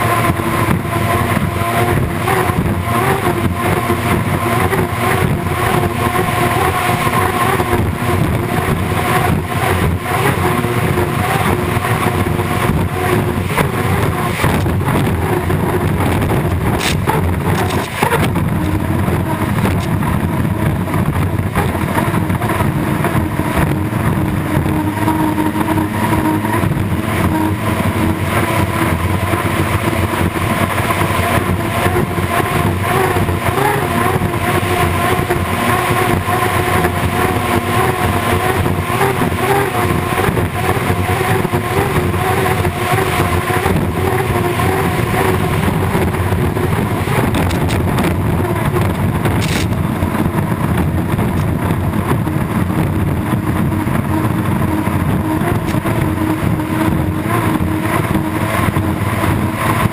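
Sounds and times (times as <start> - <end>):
hydroplane turbine engine drone: 0.0 - 59.9
wind and water spray rushing: 0.0 - 59.9.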